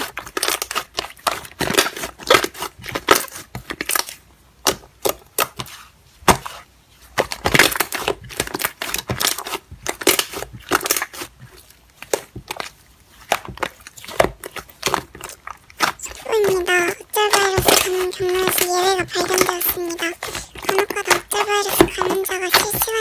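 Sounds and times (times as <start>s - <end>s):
slime squeezed crackling: 0.0s - 23.0s.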